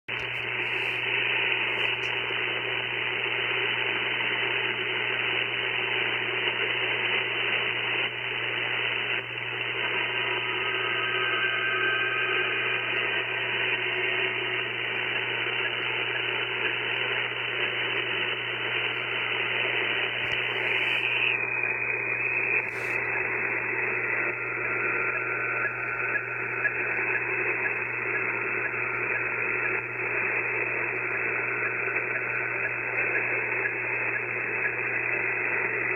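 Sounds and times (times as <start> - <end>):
faint steady tones: 0.1 - 35.9
radio noise rushing: 0.1 - 35.9.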